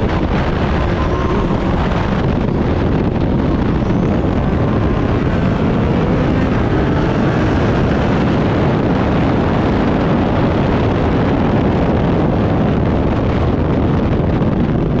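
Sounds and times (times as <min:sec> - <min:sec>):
race car at speed: 0:00.0 - 0:15.0
wind rumble on microphone: 0:00.0 - 0:15.0.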